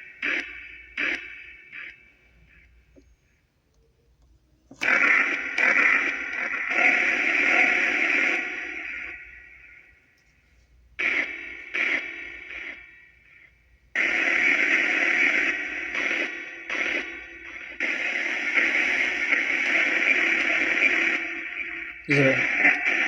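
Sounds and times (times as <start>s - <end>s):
static radio noise bursts: 0.0s - 3.0s, 4.7s - 10.1s, 11.0s - 23.0s.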